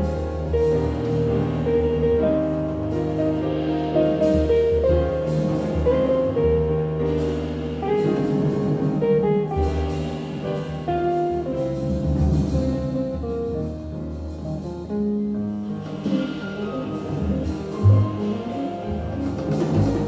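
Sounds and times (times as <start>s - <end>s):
double bass: 0.0s - 20.0s
piano: 0.0s - 20.0s.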